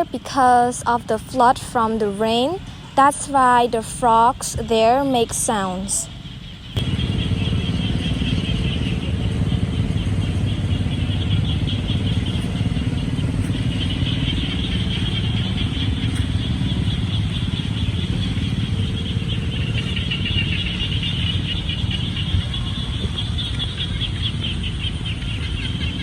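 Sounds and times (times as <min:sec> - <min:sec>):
frogs trilling: 0:00.0 - 0:26.0
low engine rumble: 0:00.0 - 0:26.0.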